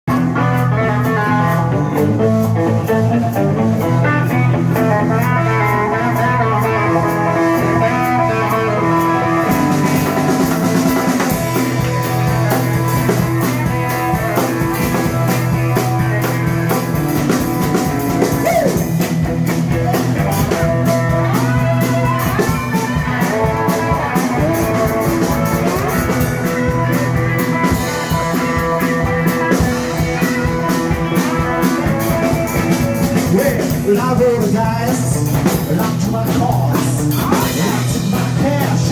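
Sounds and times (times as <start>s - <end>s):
bass: 0.0s - 38.9s
electric guitar: 0.0s - 38.9s
drum kit beat: 0.1s - 38.9s.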